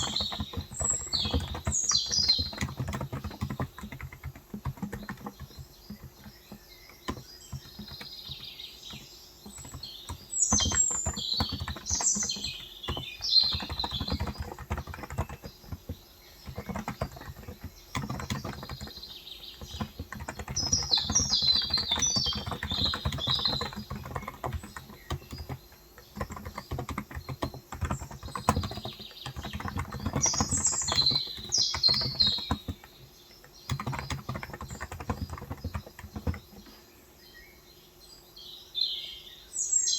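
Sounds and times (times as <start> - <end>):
typing on a keyboard: 0.0 - 36.8
birds chirping: 0.0 - 39.9.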